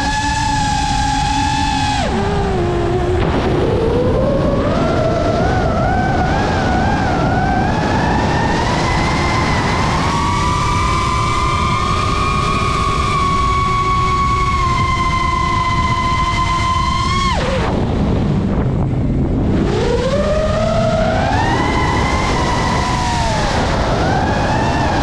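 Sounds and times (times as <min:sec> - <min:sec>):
constant rushing noise: 0:00.0 - 0:25.0
quadcopter motors whining: 0:00.0 - 0:25.0.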